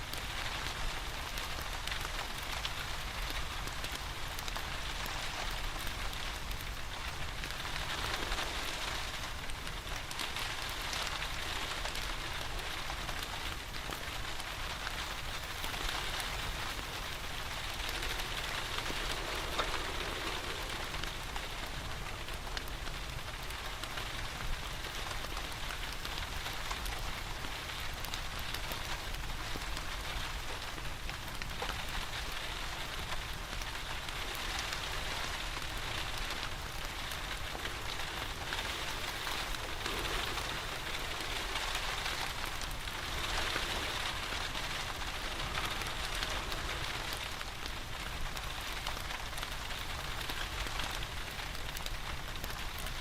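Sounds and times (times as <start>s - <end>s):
steady rain: 0.0s - 53.0s
wood fire crackling: 0.0s - 53.0s.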